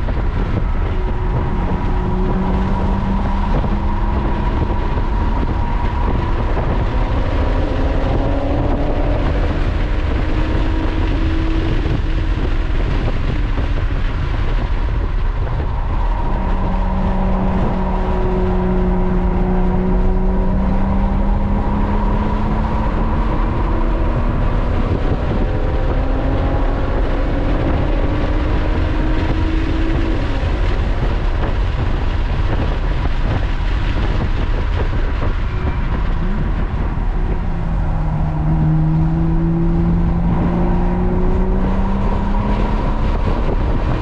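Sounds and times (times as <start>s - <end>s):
sports car engine accelerating: 0.0s - 44.0s
wind noise: 0.0s - 44.0s.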